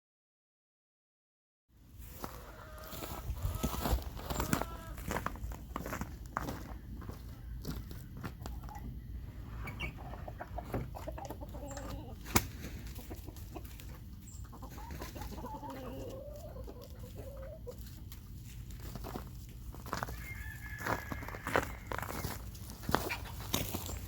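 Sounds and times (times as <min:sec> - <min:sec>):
chicken wavering calls: 0:02.1 - 0:18.2, 0:19.8 - 0:24.0
chickens clucking: 0:02.1 - 0:24.0.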